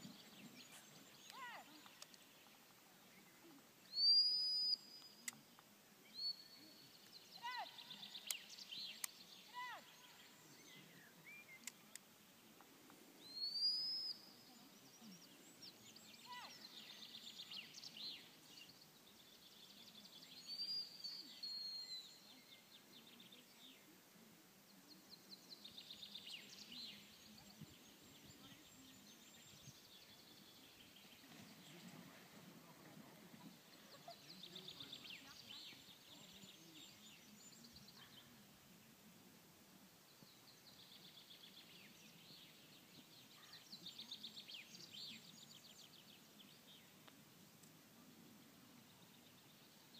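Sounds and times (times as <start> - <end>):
songbirds singing faintly: 0.0 - 49.9.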